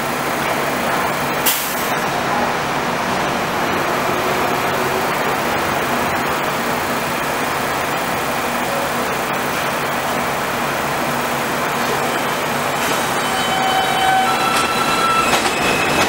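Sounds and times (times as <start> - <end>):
subway train hiss and hum: 0.0 - 16.0.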